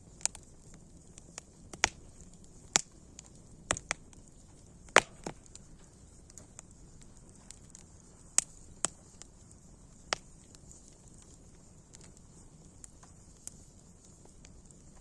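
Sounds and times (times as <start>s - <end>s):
faint steady hiss: 0.0s - 15.0s
wood fire crackling: 0.0s - 15.0s.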